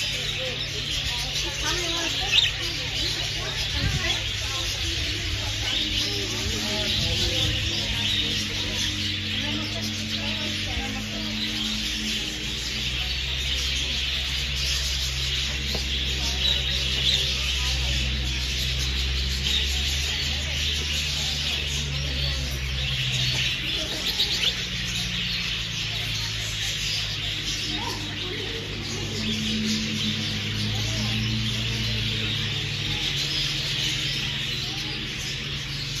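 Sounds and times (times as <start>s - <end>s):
flock of budgerigars chattering: 0.0s - 36.0s
steady low hum: 0.0s - 36.0s.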